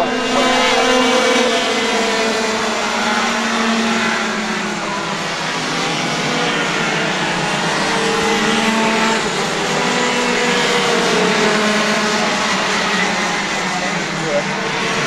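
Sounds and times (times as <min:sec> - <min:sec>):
racing kart engines: 0:00.0 - 0:15.0.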